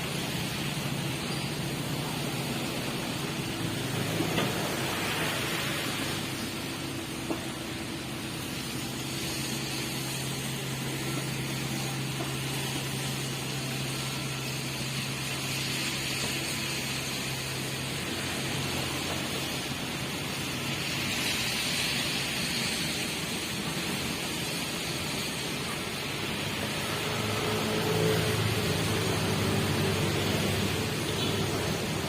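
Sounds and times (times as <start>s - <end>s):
heavy machine engine humming: 0.0s - 32.0s
steady hiss: 0.0s - 32.0s.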